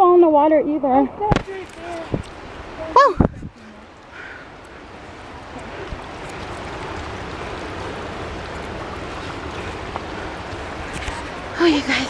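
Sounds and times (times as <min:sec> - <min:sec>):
creek water rushing over rocks: 0:00.2 - 0:12.0.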